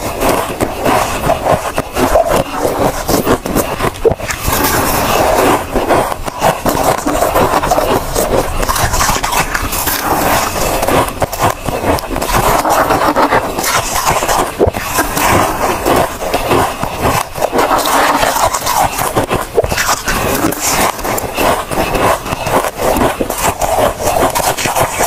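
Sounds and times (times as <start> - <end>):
ice being chewed crunching: 0.0 - 25.0.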